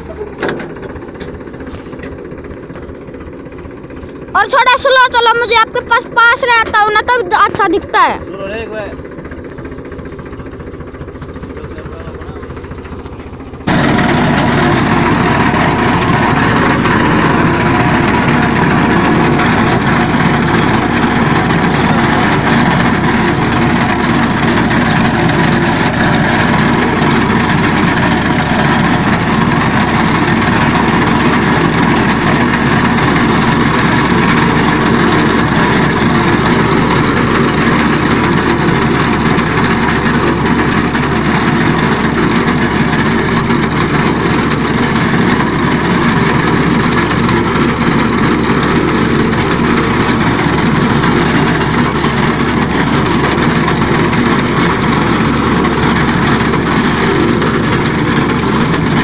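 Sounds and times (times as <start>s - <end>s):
reaper cutting crop: 0.0s - 59.0s
tractor engine under load: 0.0s - 59.0s.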